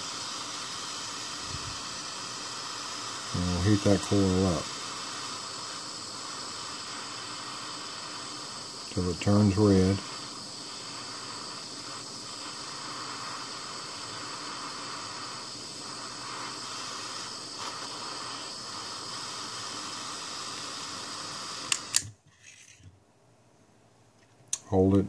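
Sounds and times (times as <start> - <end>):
torch flame hissing: 0.0 - 22.2.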